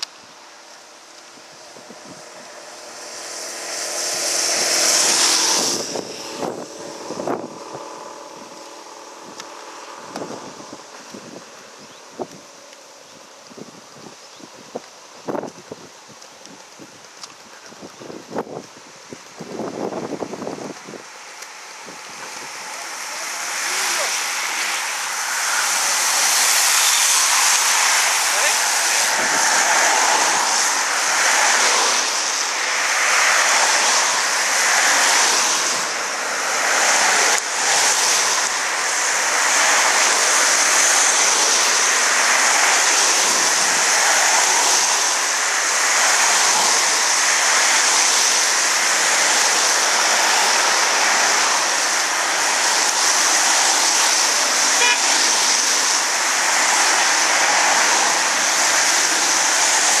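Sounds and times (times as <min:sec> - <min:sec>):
cars driving past: 0:00.0 - 0:13.0, 0:19.2 - 1:00.0.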